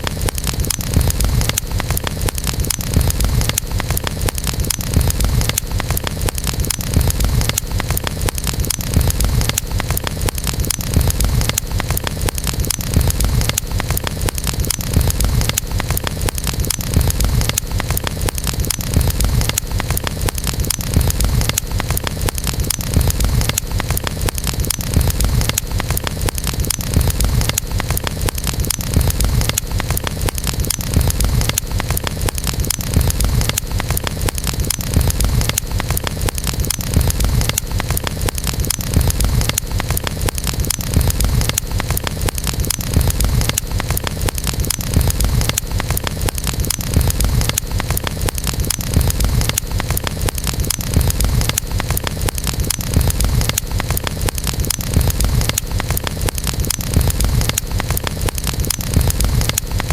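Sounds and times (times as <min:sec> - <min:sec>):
campfire crackling: 0:00.0 - 0:59.9
low rumble of fire: 0:00.0 - 0:59.9.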